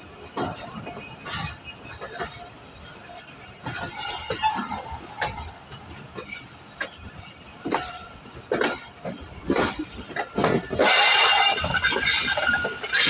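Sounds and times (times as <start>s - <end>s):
train rumble: 0.0s - 13.0s
train wheels clunking over rail joints: 0.0s - 13.0s.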